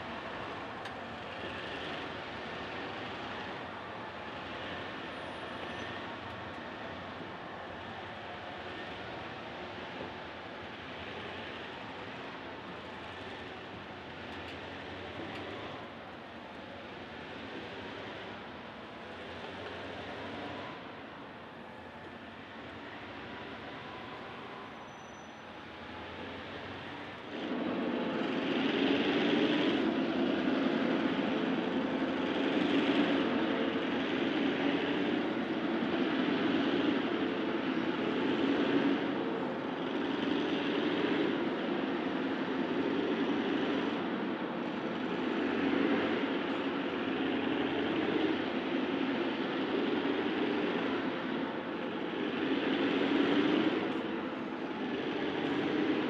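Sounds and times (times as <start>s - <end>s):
diesel locomotives working hard: 0.0s - 56.0s.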